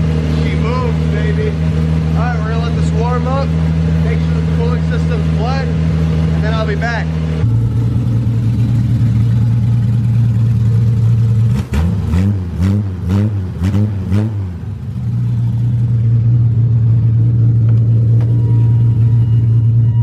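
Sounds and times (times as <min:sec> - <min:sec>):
car engine running: 0:00.0 - 0:20.0
engine revs blipping: 0:00.0 - 0:20.0.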